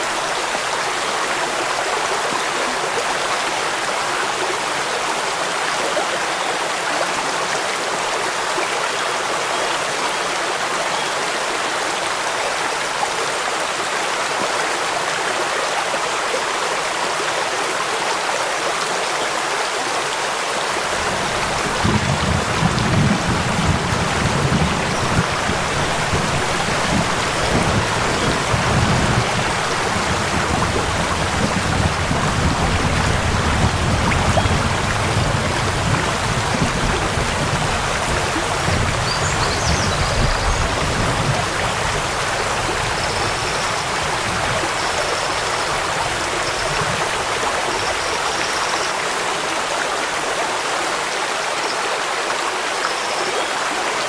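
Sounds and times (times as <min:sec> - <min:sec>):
rush of falling water: 0:00.0 - 0:54.0.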